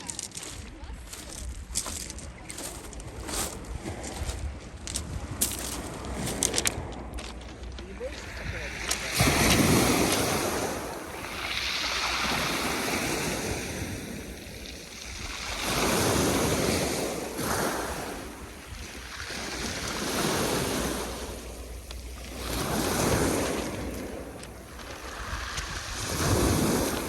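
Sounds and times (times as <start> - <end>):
waves on pebble beach: 0.0 - 27.0.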